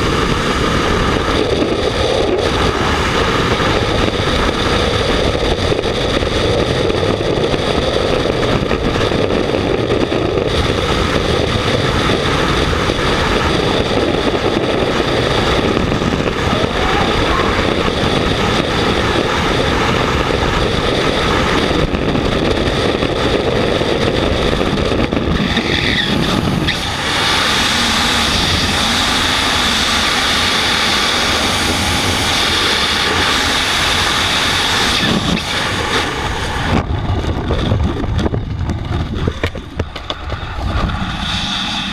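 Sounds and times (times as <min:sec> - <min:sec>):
freefall wind roaring over microphone: 0:00.0 - 0:41.9.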